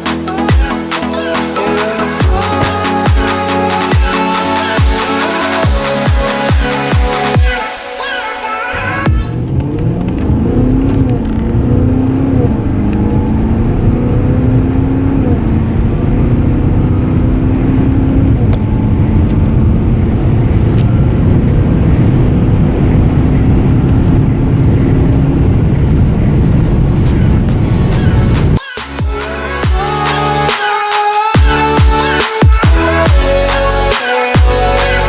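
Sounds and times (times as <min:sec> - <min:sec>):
car engine accelerating: 0:00.0 - 0:30.5.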